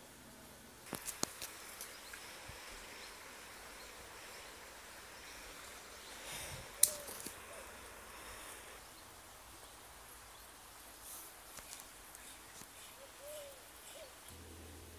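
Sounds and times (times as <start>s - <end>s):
faint outdoor background noise: 0.0s - 14.9s.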